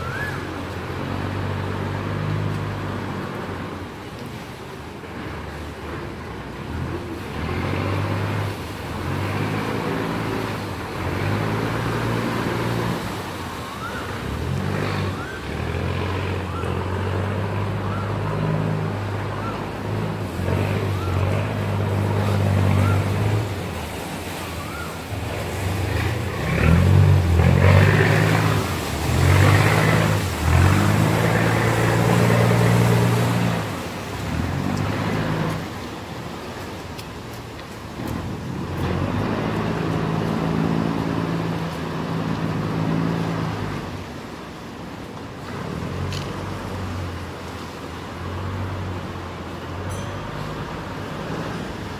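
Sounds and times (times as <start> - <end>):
boat engine droning: 0.0 - 51.9
water churning along hull: 0.0 - 51.9.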